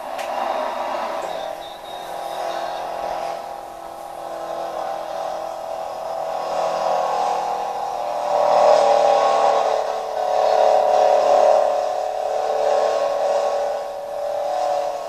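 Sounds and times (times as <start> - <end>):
tractor engine at high revs: 0.0 - 15.0.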